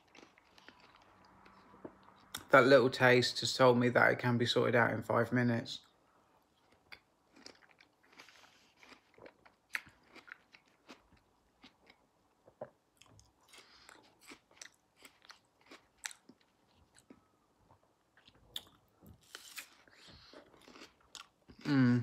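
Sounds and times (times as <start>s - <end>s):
person chewing fruit: 0.0s - 2.5s, 6.4s - 22.0s.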